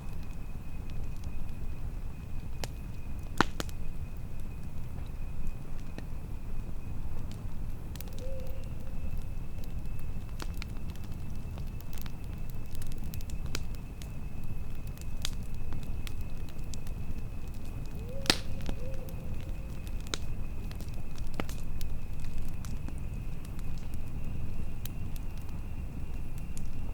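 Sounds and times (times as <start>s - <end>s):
campfire crackling and popping: 0.0s - 26.9s.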